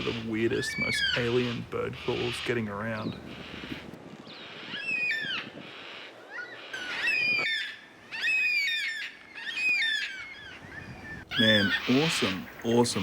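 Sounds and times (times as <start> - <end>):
young bird begging call: 0.0 - 12.8
cockatoos calling: 0.0 - 13.0.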